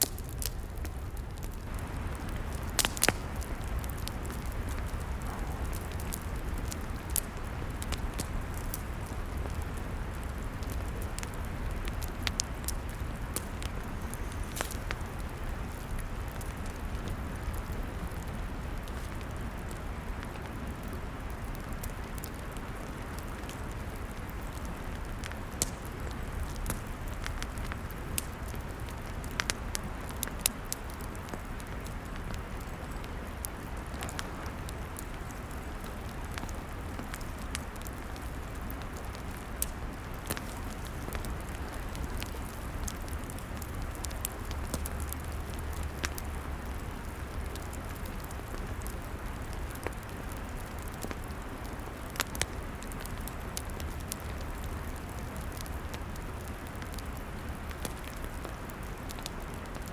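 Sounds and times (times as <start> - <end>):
log fire crackling and popping: 0.0 - 59.9.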